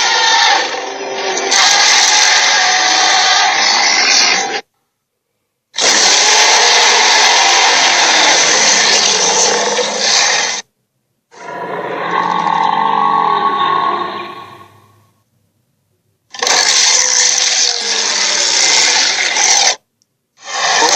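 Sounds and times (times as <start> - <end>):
monster roar: 0.0 - 4.6, 5.8 - 10.6, 11.3 - 15.0, 16.4 - 19.8, 20.4 - 20.9.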